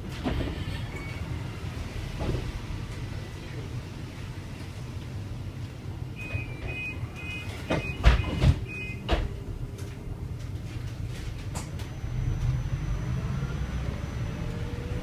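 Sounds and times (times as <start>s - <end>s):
bus interior rumble: 0.0s - 15.0s.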